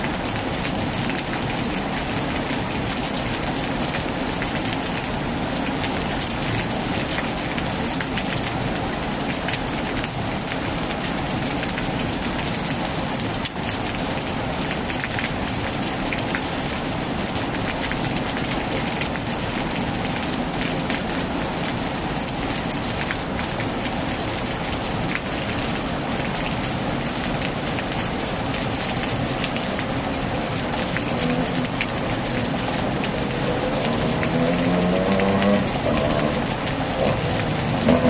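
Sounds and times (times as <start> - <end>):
heavy rain on a tin roof: 0.0 - 38.0.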